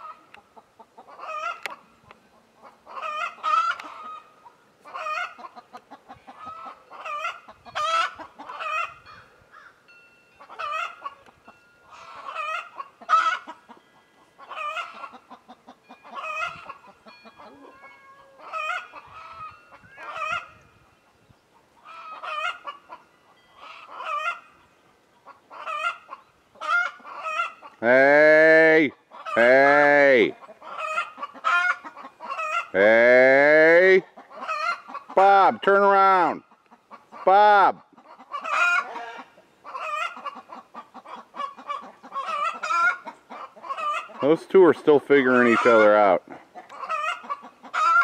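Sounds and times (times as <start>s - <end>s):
hens clucking and cackling: 0.0s - 9.8s, 10.4s - 48.0s.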